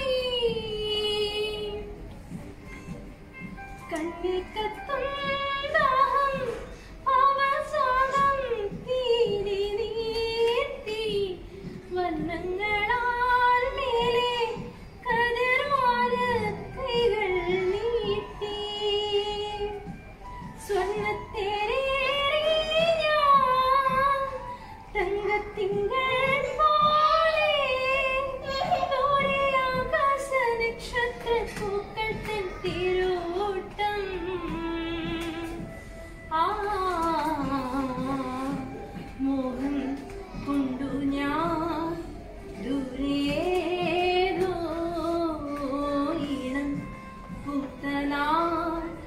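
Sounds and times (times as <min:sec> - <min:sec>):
woman singing unaccompanied: 0:00.0 - 0:02.3, 0:03.5 - 0:49.0.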